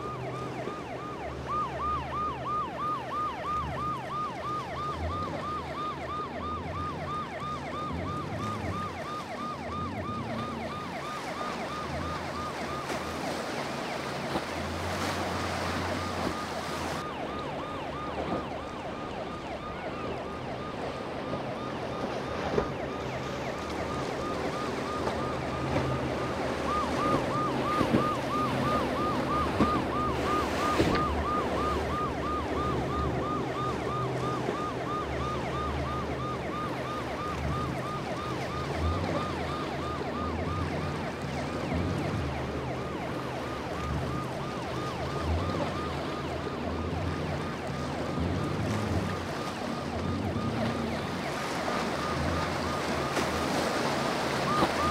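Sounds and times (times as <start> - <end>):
boat siren yelping: 0.0 - 54.9
outboard motor hum: 0.0 - 54.9
water washing: 0.0 - 54.9
wind: 0.0 - 54.9.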